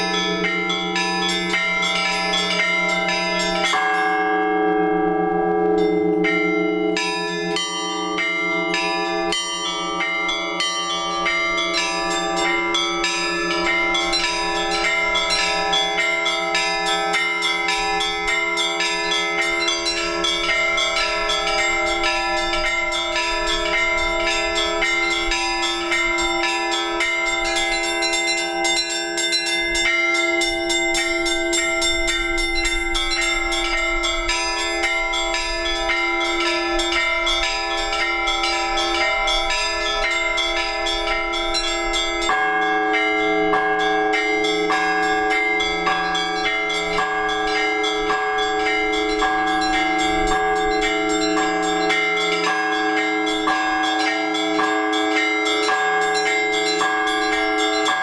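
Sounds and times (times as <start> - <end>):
church bells pealing: 0.0 - 58.0
hum of large bells: 0.0 - 58.0.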